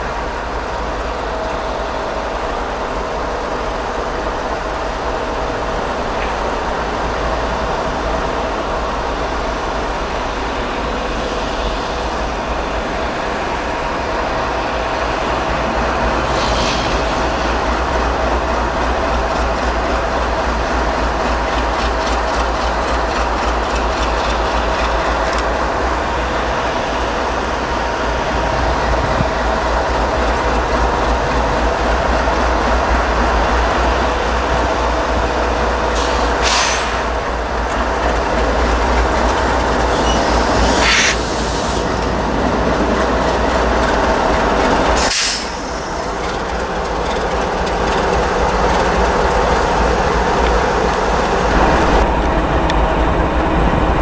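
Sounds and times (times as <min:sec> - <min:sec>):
locomotive engine drone: 0:00.0 - 0:54.0.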